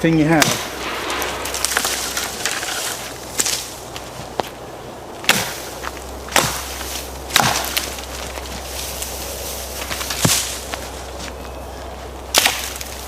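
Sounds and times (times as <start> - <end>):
axe chopping branches: 0.3 - 4.6, 5.2 - 11.4, 12.3 - 13.0.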